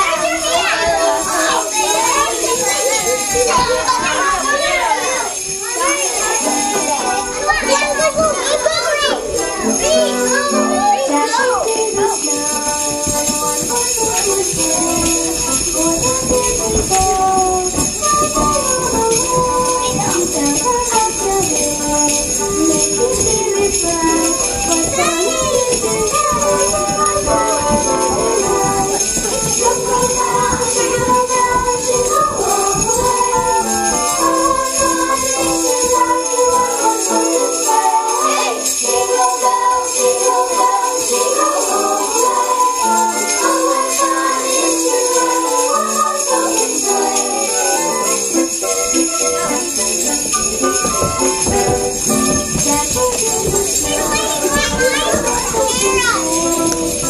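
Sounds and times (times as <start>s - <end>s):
sleigh bells jingling: 0.0s - 57.0s.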